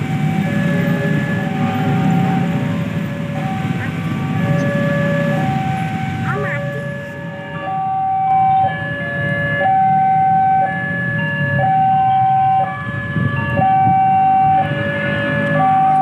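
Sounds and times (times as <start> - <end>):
idling traffic rumble: 0.0 - 16.0
level crossing two-tone alarm: 0.0 - 16.0.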